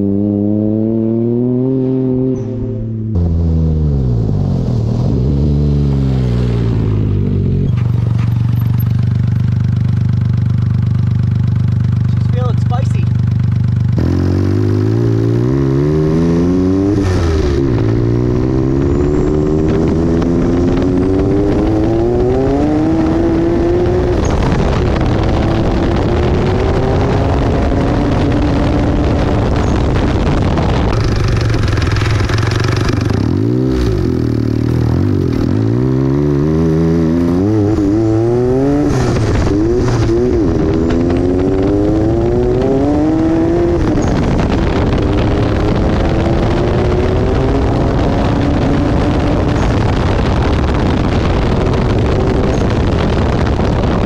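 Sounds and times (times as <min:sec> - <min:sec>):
buggy engine accelerating: 0:00.0 - 0:54.0.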